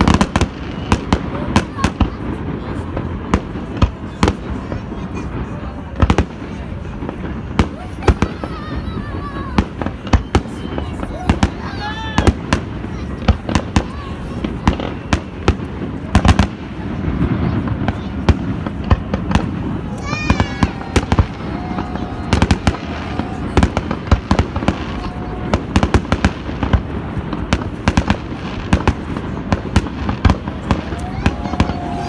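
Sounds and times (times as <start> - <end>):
continuous rumble: 0.0 - 32.0
firework bangs and cracks: 0.0 - 32.0.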